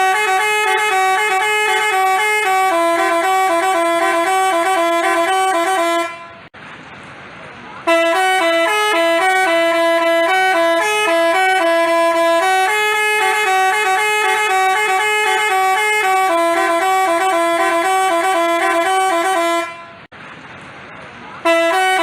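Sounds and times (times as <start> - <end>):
multi-tone bus horn playing tune: 0.0 - 6.5, 7.8 - 20.1, 21.4 - 22.0.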